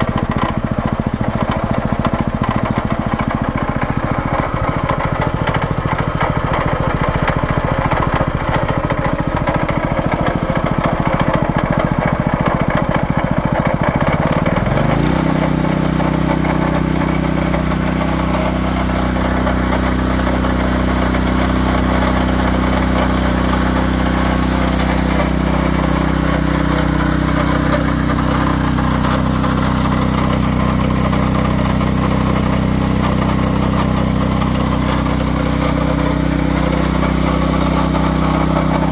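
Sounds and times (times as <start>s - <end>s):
rototiller engine running: 0.0s - 38.9s.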